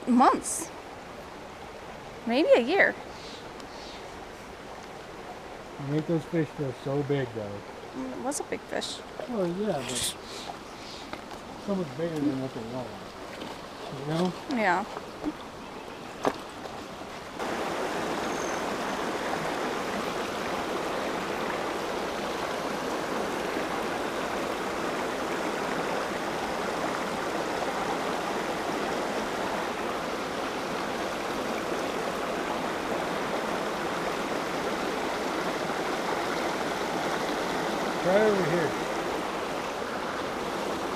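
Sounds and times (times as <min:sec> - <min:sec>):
creek running over rocks: 0:00.0 - 0:40.9.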